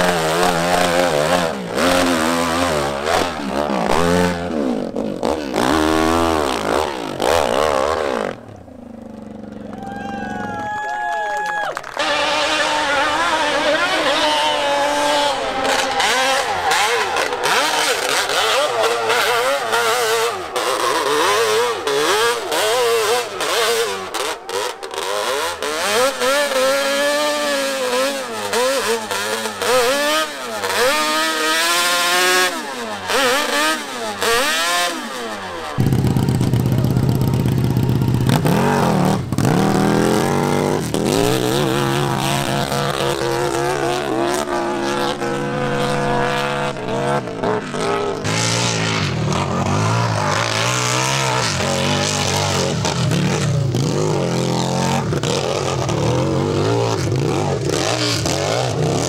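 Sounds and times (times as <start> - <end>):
motorcycle engines revving: 0.0 - 11.1, 11.7 - 59.0.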